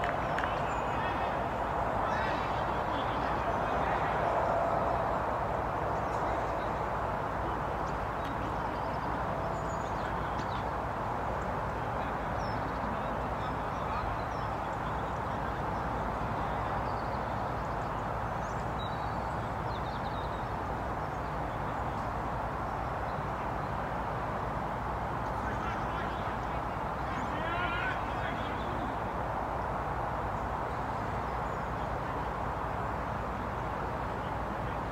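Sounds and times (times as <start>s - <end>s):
outdoor background noise: 0.0s - 34.9s.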